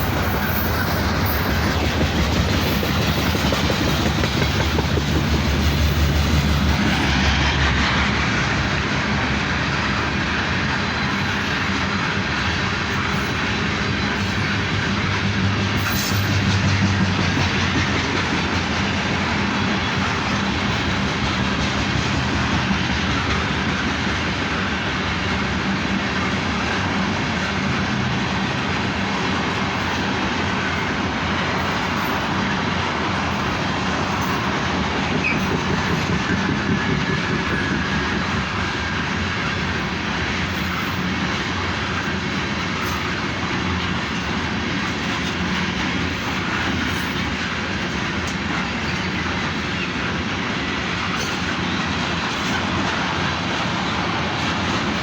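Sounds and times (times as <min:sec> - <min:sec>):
train wheels roaring on rails: 0:00.0 - 0:55.0.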